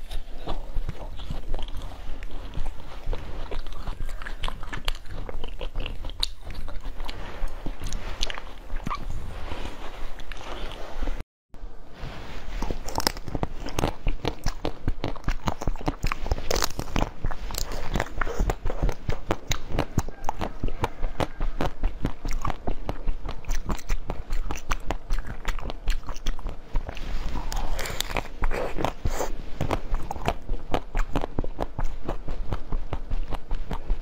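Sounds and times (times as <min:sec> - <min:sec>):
crunchy chewing: 0:00.0 - 0:11.2, 0:12.5 - 0:34.0.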